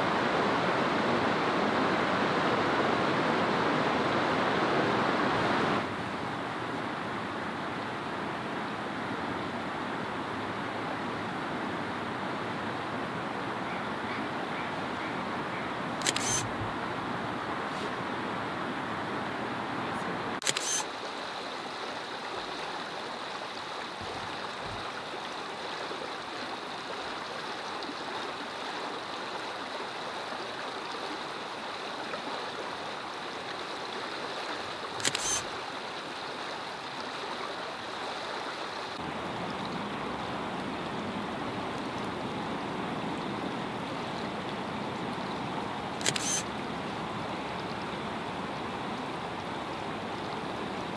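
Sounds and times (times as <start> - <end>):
water flowing over rocks: 0.0 - 50.9.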